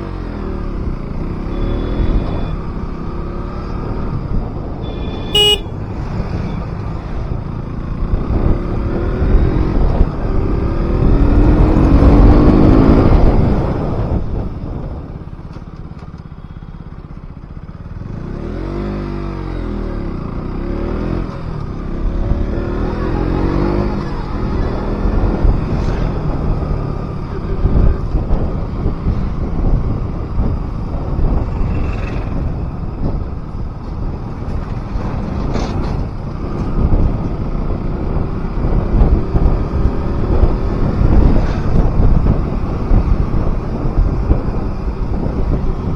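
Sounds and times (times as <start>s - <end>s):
motorcycle engine running: 0.1s - 45.9s.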